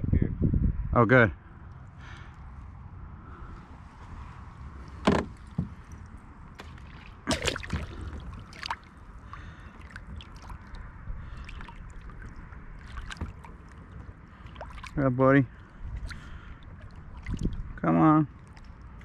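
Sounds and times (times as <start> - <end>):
low wash of water: 1.6 - 19.0
water splashing around a kayak: 3.2 - 19.0.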